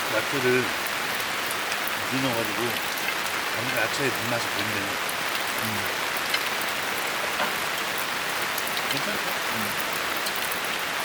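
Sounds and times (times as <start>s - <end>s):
raindrops ticking nearby: 0.0s - 11.0s
steady rain hiss: 0.0s - 11.0s.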